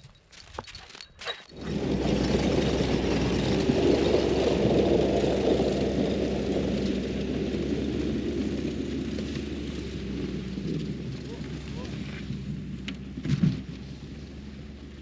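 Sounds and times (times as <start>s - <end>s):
snowmobile engine running: 0.9s - 15.0s.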